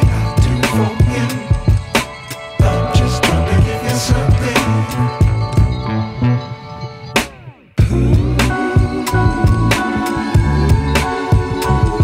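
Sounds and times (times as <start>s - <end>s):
background music with drum beat: 0.0s - 5.9s, 7.2s - 12.0s.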